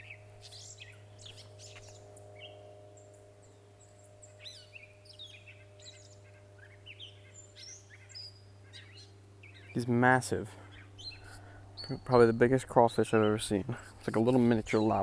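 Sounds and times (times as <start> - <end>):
birds chirping and whistling: 0.0 - 10.0, 10.6 - 15.0
steady low hum: 0.0 - 15.0.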